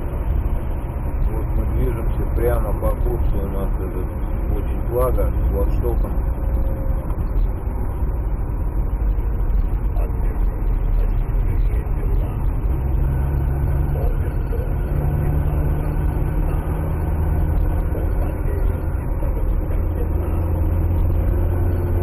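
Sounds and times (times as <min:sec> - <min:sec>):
car cabin road rumble: 0:00.0 - 0:22.0
low engine hum: 0:00.0 - 0:22.0.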